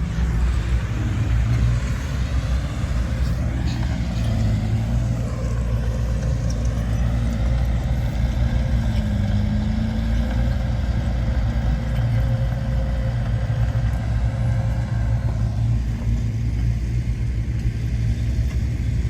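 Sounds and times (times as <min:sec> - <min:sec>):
heavy diesel engine droning: 0:00.0 - 0:19.0.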